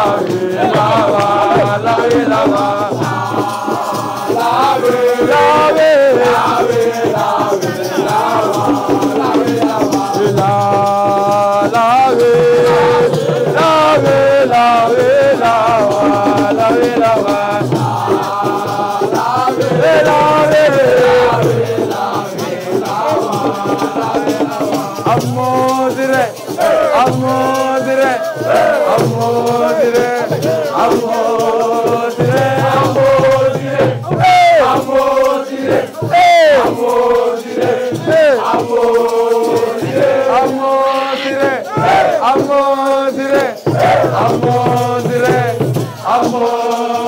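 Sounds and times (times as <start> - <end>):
group singing call-and-response chant: 0.0 - 47.0
shaken rattle: 0.0 - 47.0.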